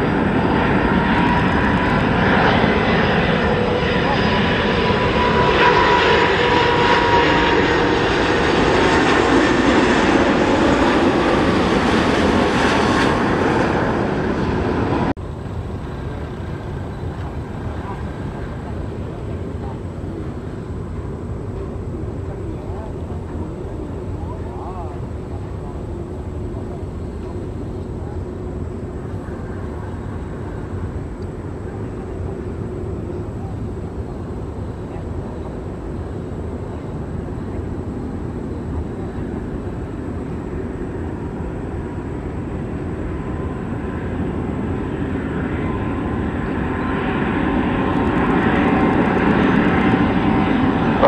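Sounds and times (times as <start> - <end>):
jet engines passing: 0.0 - 51.0.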